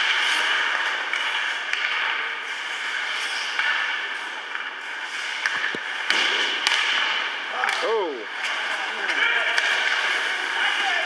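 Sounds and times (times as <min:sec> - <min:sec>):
stick clacking on puck: 0:00.0 - 0:10.8
skates scraping on ice: 0:00.0 - 0:11.0.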